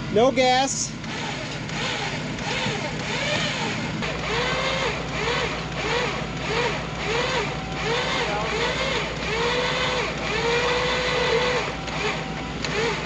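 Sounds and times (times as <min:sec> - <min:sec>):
vehicle engines running: 0:00.0 - 0:13.0
winch whine: 0:00.0 - 0:13.0.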